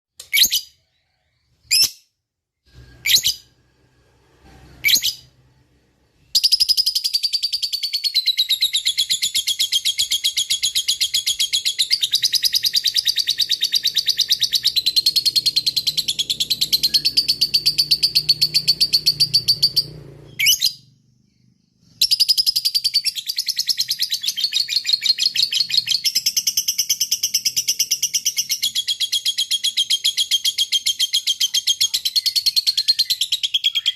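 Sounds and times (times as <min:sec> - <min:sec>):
lovebird chirping: 0:00.2 - 0:03.6, 0:04.8 - 0:33.9.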